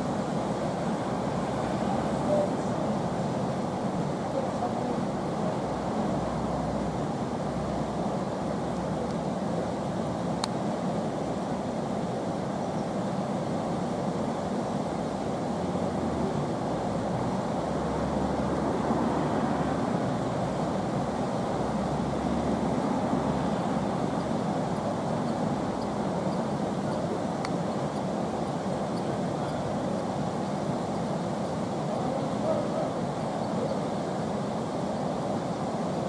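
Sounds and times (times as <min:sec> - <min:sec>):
white water rushing over rapids: 0:00.0 - 0:36.0.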